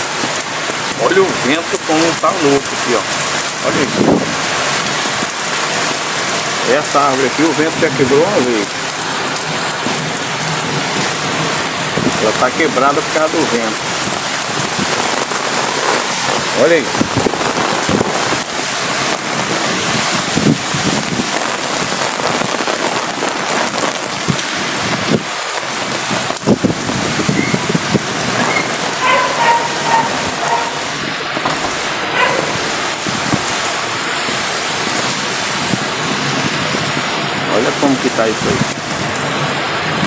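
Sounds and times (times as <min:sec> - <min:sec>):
heavy rain on pavement: 0:00.0 - 0:40.0.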